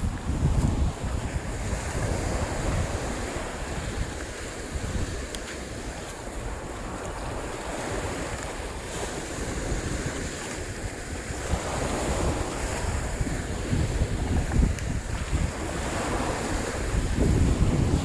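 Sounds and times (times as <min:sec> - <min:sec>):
sea waves washing: 0:00.0 - 0:18.0
wind buffeting microphone: 0:00.0 - 0:18.0.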